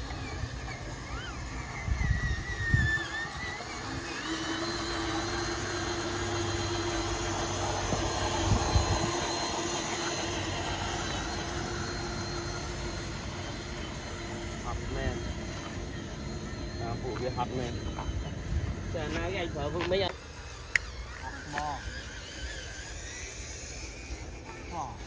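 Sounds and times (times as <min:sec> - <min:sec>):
small electric motor whine: 0:00.0 - 0:25.0.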